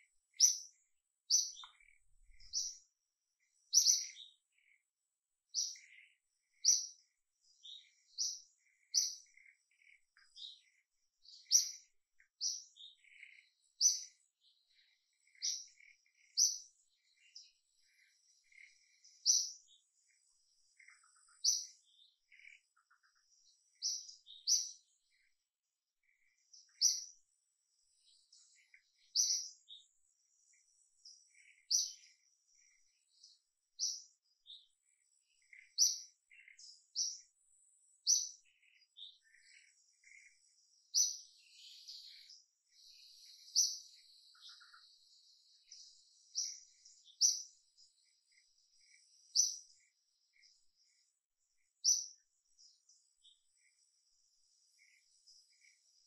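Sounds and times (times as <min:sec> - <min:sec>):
birds chirping: 0:00.0 - 0:56.0
faint insect-like buzz: 0:00.0 - 0:56.0.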